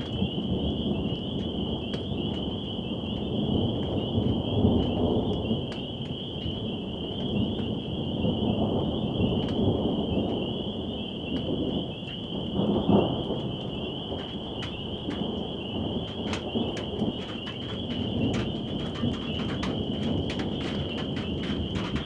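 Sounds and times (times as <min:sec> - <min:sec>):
rain drops ticking: 0:00.0 - 0:22.0
thunder rumbling: 0:00.0 - 0:22.0.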